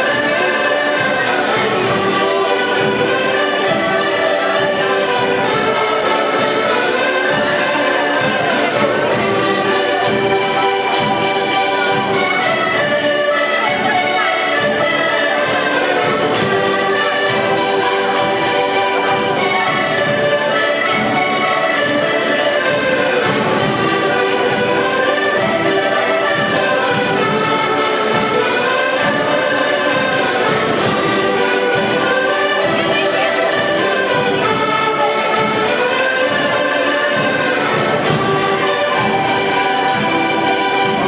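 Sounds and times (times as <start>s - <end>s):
concertinas playing a tune: 0.0s - 41.0s.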